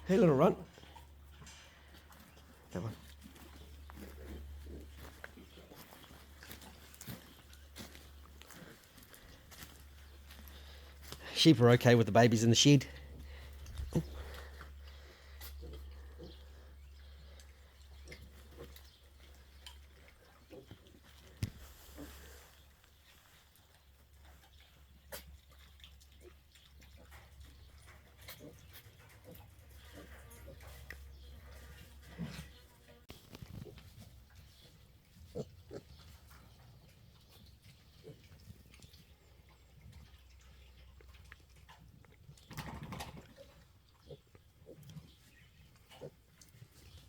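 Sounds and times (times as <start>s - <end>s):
pigs grunting softly: 0.0s - 11.3s, 12.8s - 47.0s
faint animal noises: 0.0s - 47.0s
pigs scuffling: 0.0s - 47.0s.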